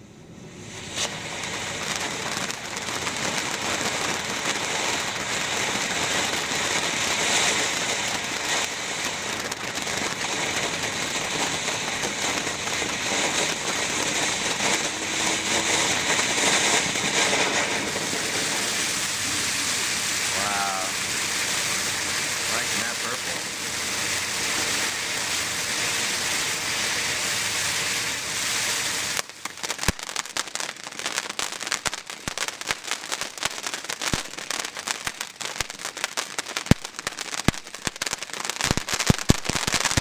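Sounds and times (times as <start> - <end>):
firework fountain hissing and crackling: 0.0 - 40.0.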